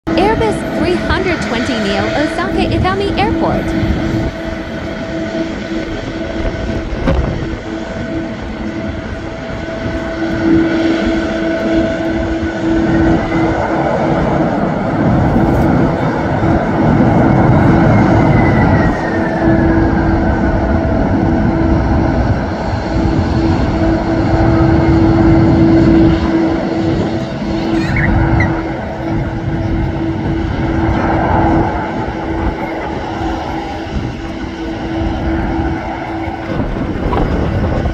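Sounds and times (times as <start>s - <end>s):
jet engines whining and roaring: 0.0s - 37.9s.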